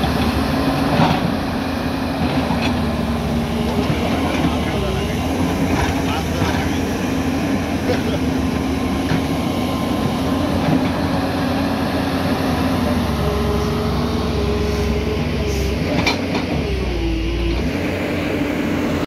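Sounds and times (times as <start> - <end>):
excavator diesel engines running: 0.0 - 19.0.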